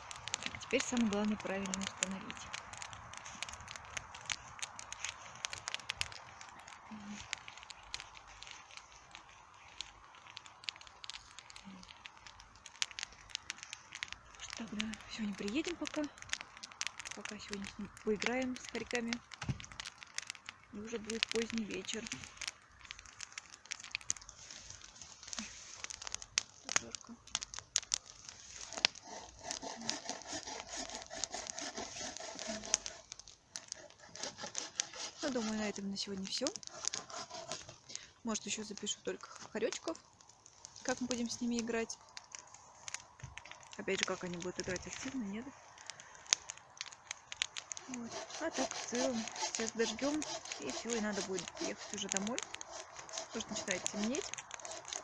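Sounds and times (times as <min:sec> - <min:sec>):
campfire crackling: 0:00.0 - 0:55.0
rustling hiss: 0:00.0 - 0:55.0
sharp pops of fire: 0:00.0 - 0:55.0.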